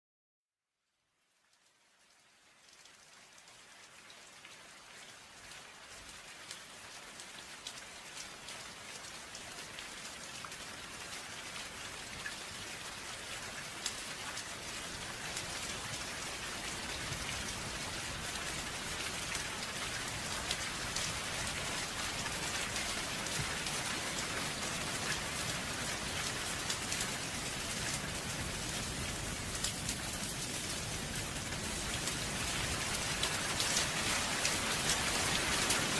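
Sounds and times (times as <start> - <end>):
gentle rain falling: 0.7 - 35.9.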